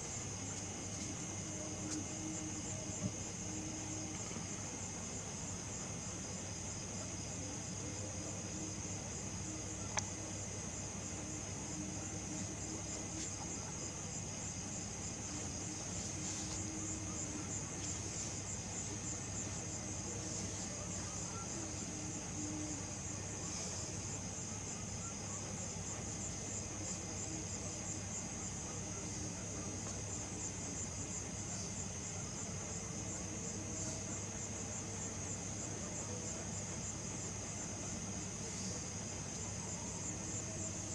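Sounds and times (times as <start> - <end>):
crickets chirping: 0.0 - 40.9
faint low hum: 0.0 - 40.9.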